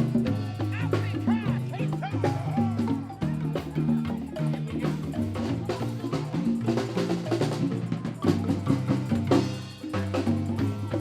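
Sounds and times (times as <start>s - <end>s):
drums: 0.0s - 11.0s
marimba band music: 0.0s - 11.0s.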